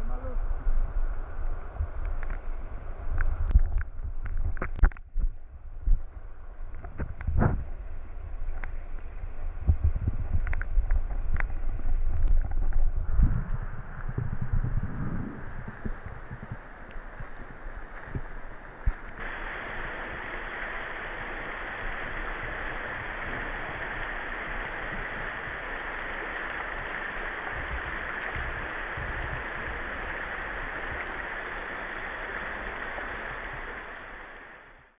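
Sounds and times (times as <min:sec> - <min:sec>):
stream running over stones: 0:00.0 - 0:35.0.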